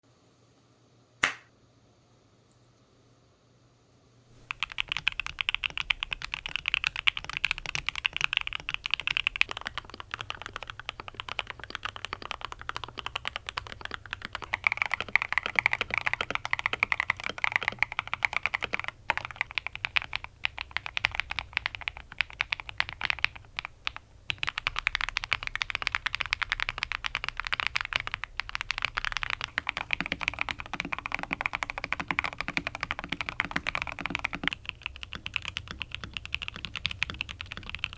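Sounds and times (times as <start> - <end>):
mechanical keyboard typing: 4.4 - 37.9.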